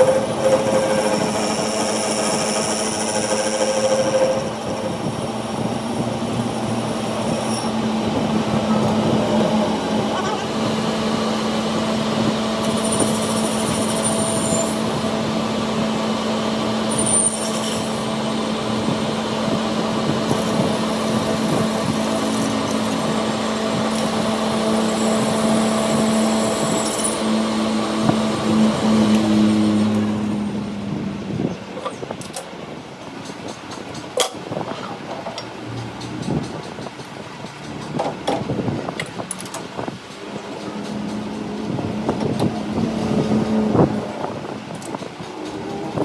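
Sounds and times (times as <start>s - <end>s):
machine humming: 0.0s - 31.3s, 39.8s - 46.0s.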